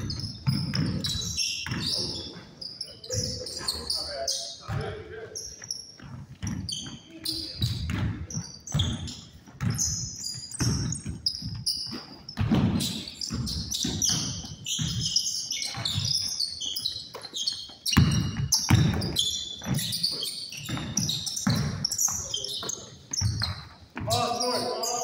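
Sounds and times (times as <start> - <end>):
basketball bouncing on court: 0.0 - 25.0.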